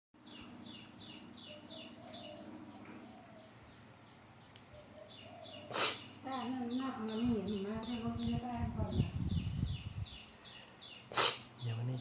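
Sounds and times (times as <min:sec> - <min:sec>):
bird chirping: 0:00.2 - 0:12.0.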